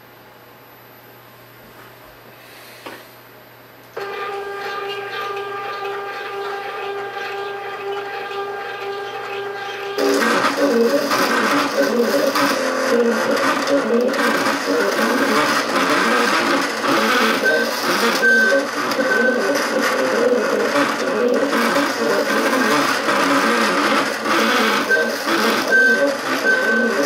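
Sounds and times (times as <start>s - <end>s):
stepper motors buzzing and whirring: 4.0s - 27.0s.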